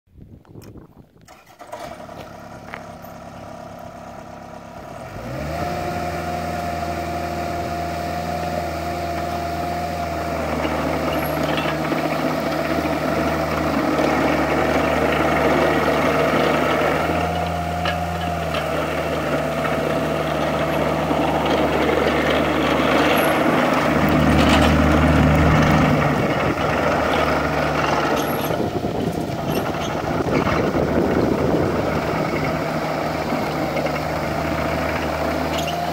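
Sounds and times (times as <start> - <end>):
excavator diesel engine running: 1.2 - 35.9.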